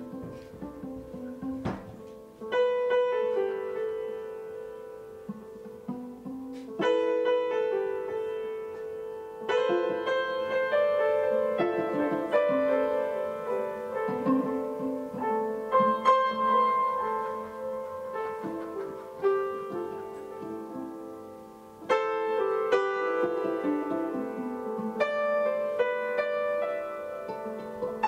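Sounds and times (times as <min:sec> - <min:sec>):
upright piano playing slow chords: 0:00.0 - 0:28.0.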